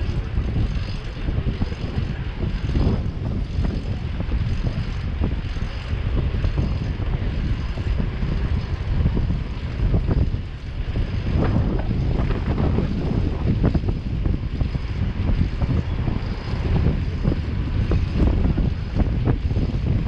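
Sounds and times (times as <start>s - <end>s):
street traffic rumble: 0.0s - 20.0s
wind buffeting microphone: 0.0s - 20.0s.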